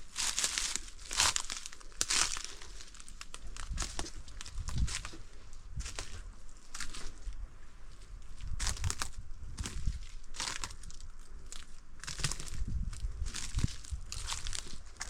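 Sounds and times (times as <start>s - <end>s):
crunching of dry leaves: 0.0s - 15.0s.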